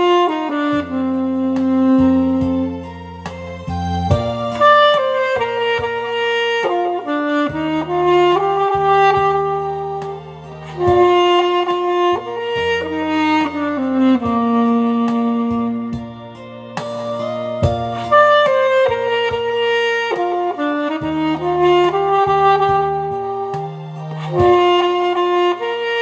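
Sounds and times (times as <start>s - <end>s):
alto saxophone melody: 0.0s - 26.0s
bass and steady beat accompaniment: 0.0s - 26.0s.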